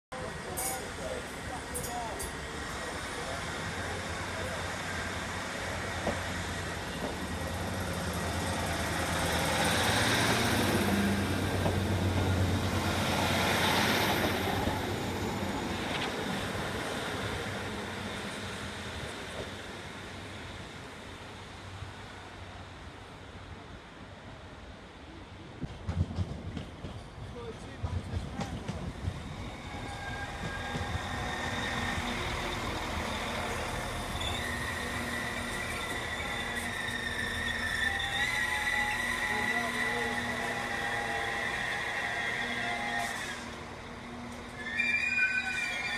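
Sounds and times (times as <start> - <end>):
train moving through station: 0.1 - 45.9.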